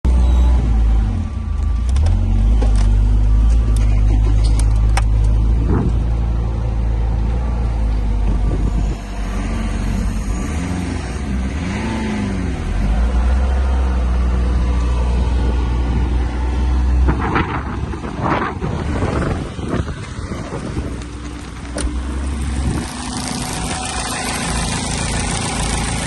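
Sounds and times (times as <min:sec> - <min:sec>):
diesel car engine revving: 0:00.1 - 0:26.0.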